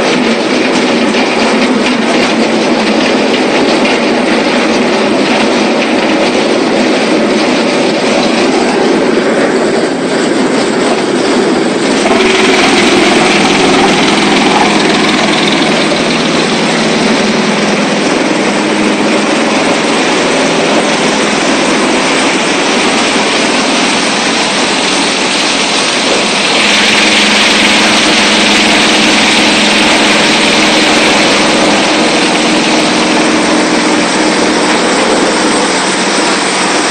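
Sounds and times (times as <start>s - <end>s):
wood chipper running: 0.0s - 36.9s.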